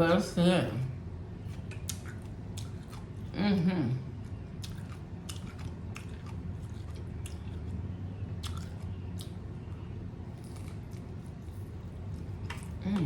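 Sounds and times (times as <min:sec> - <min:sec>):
low steady hum: 0:00.0 - 0:13.0
person chewing food: 0:01.4 - 0:03.3, 0:04.1 - 0:13.0.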